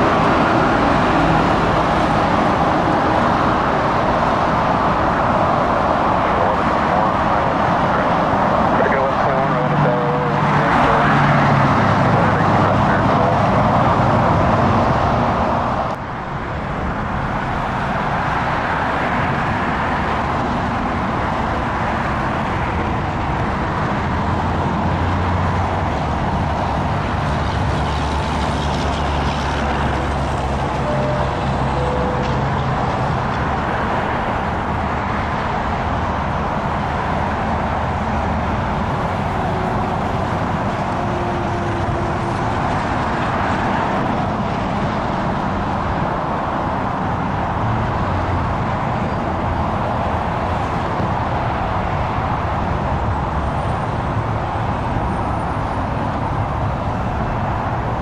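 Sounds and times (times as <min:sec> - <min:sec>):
engine and traffic noise: 0:00.0 - 0:58.0.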